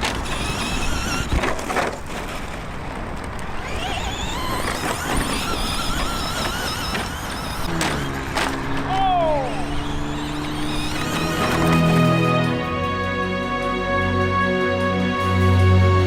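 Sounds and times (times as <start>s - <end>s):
toy truck electric motor whining: 0.0s - 16.0s
tyres on dirt and gravel: 0.0s - 16.0s.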